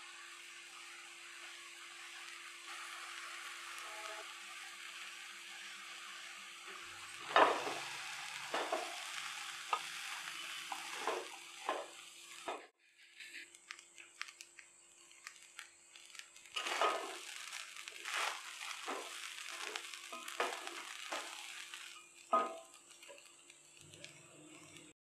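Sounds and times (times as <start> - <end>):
light sizzle: 0.0 - 25.0.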